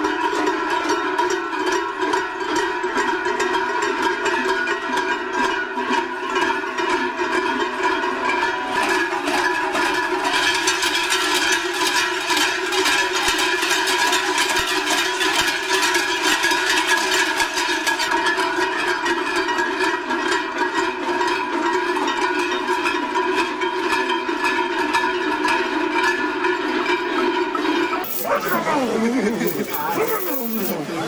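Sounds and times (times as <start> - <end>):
cowbells ringing and clanging: 0.3 - 31.0.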